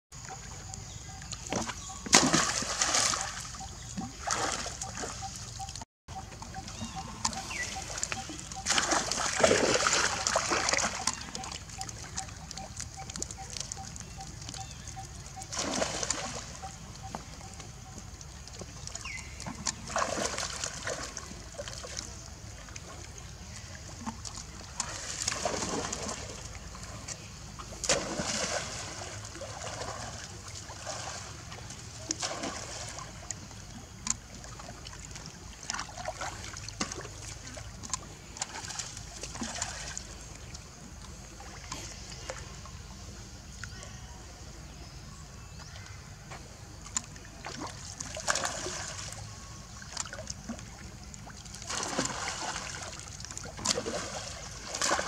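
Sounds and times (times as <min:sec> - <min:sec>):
monkeys splashing water: 0:01.1 - 0:05.7, 0:06.3 - 0:42.5, 0:47.0 - 0:55.0.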